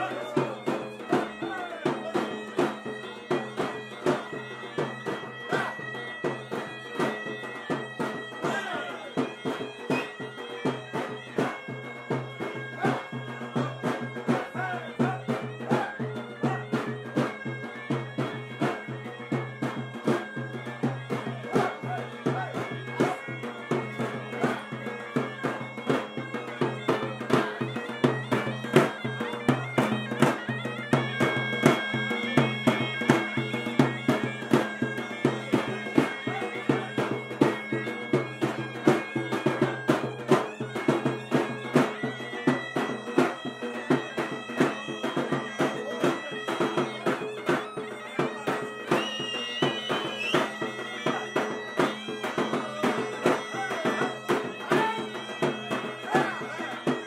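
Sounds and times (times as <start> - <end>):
drum beating: 0.0 - 57.0
reedy wind instrument melody: 0.0 - 57.0.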